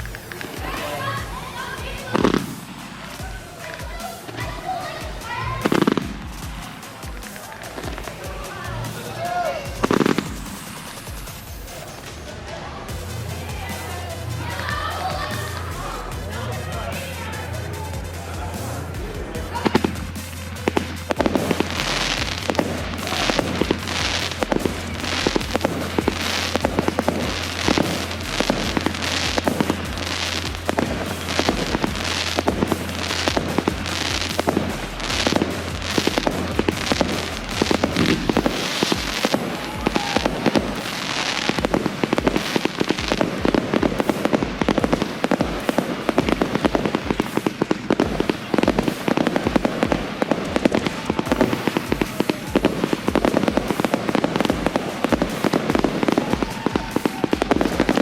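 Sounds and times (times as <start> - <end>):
fireworks banging and crackling: 0.0 - 58.0.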